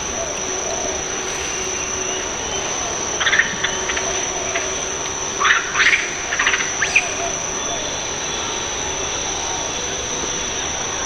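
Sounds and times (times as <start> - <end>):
background hiss: 0.0 - 11.0
high-pitched insect drone: 0.0 - 11.0.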